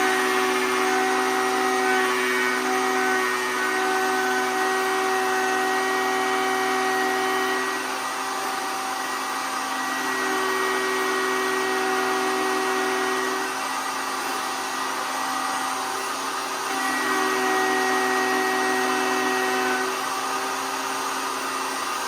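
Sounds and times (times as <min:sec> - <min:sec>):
router whining: 0:00.0 - 0:22.0.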